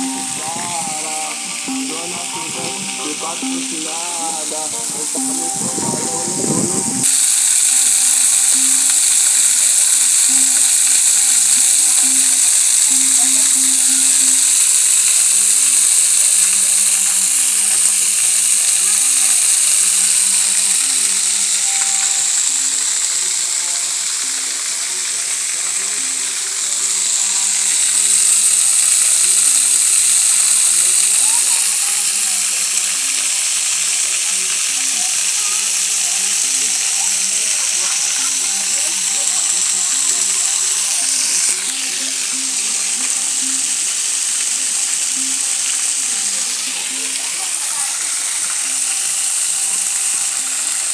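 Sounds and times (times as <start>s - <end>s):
faint music: 0.0s - 33.2s, 34.0s - 50.9s
water pouring over waterfall: 0.0s - 50.9s.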